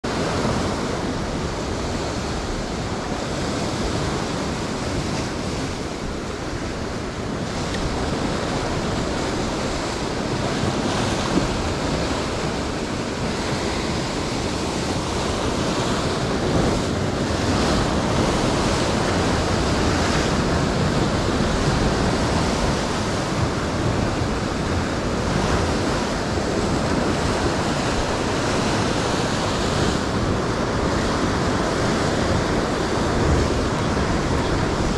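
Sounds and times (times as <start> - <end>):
surf washing over rocks: 0.0 - 34.9.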